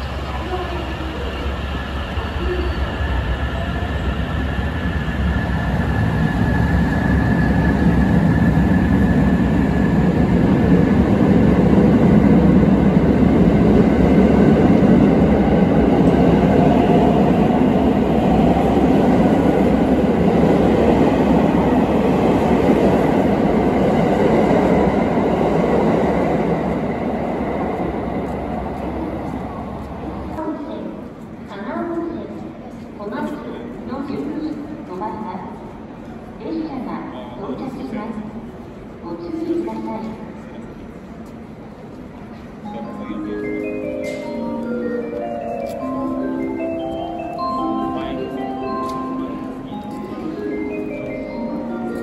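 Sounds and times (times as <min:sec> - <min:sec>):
electric train passing: 0:00.0 - 0:32.9, 0:37.2 - 0:52.0.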